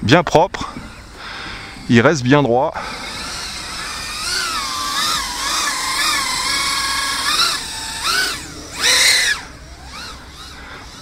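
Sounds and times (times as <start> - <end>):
drone motors whining: 0.6 - 11.0.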